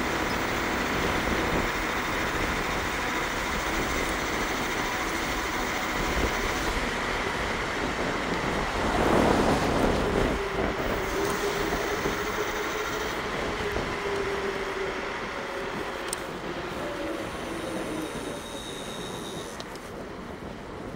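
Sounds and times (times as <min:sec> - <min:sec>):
electric scooter motor whine: 0:00.0 - 0:20.9
road and wind noise: 0:00.0 - 0:20.9.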